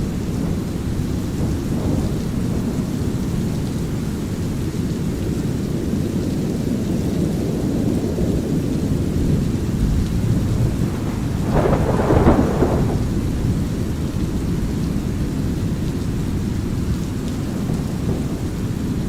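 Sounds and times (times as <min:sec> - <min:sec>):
crackling thunderclap: 0:00.0 - 0:05.9, 0:06.7 - 0:19.0
light rain: 0:00.0 - 0:19.0.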